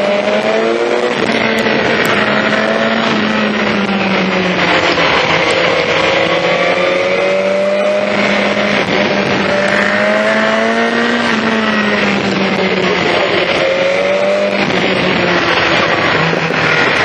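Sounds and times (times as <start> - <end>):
motorcycle engine at high revs: 0.0 - 17.0
wind noise: 0.0 - 17.0.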